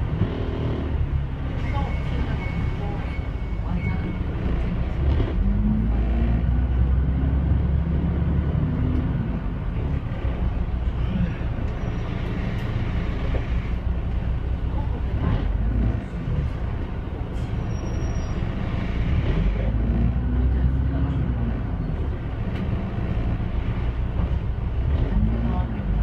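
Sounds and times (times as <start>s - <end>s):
bus engine humming: 0.0s - 26.0s.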